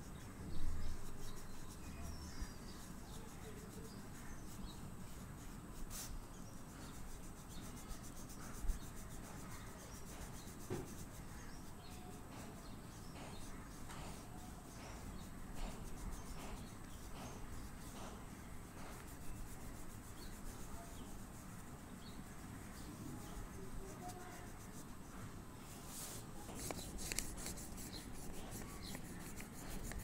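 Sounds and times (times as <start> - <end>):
oil pastel scratching on paper: 0.0 - 30.0.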